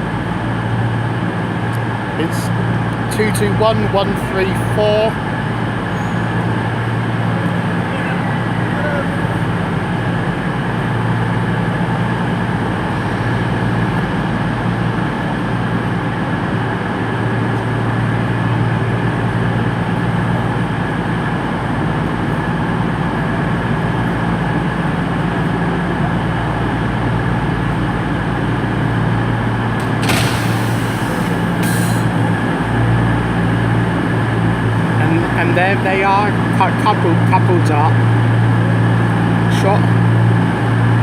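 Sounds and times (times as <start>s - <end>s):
diesel train engine drone: 0.0s - 41.0s.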